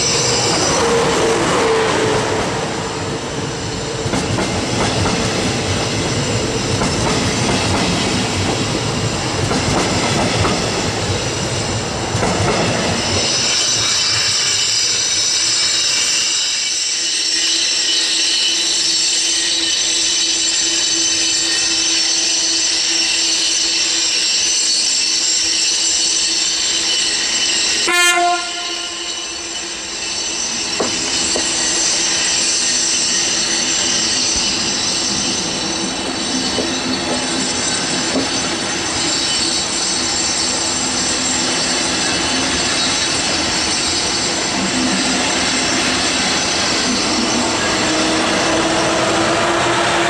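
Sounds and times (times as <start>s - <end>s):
train clattering over rails: 0.0s - 50.0s
train wheels squealing: 0.0s - 50.0s.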